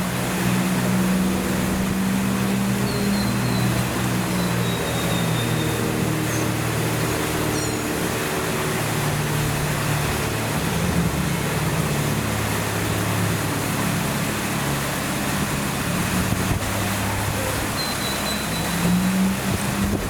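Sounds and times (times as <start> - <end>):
fountain splashing: 0.0 - 20.0
low engine hum: 0.0 - 20.0.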